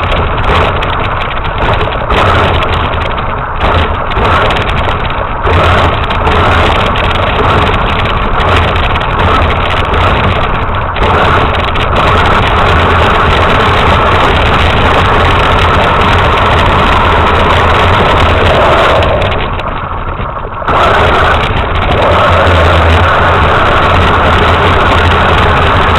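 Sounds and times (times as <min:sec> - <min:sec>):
toy truck motor running: 0:00.0 - 0:25.9.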